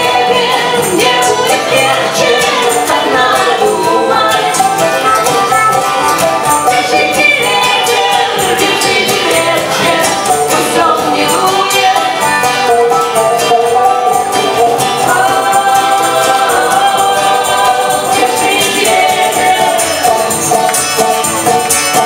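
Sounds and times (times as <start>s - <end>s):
men and woman singing together: 0.0s - 5.0s, 6.7s - 12.7s, 13.3s - 21.2s
acoustic guitar strumming: 0.0s - 22.0s
banjo strumming: 0.0s - 22.0s.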